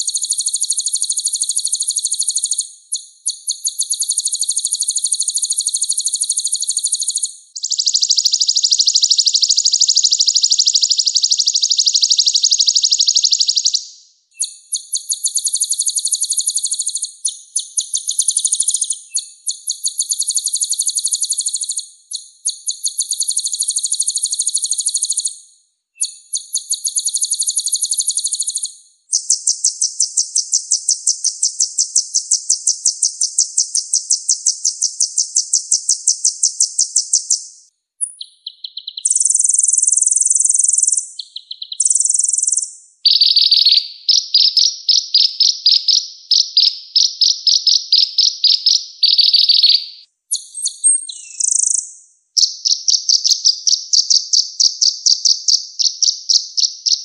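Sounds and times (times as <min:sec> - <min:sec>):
songbird trilling: 0:00.0 - 0:25.4, 0:26.0 - 0:57.0.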